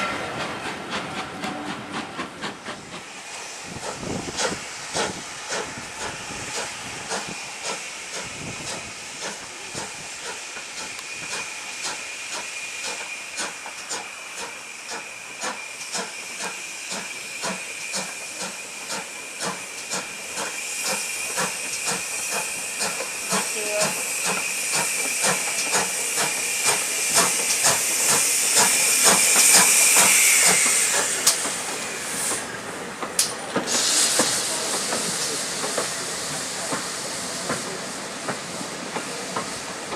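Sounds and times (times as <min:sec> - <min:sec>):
steam hissing: 0:00.0 - 0:39.9.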